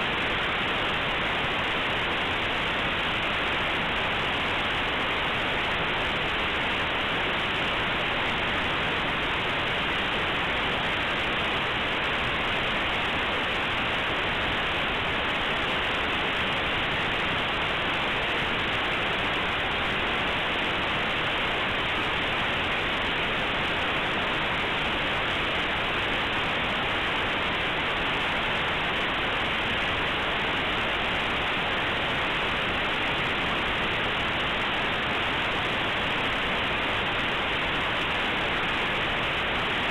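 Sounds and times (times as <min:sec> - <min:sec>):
static-like white noise hiss: 0:00.0 - 0:39.9.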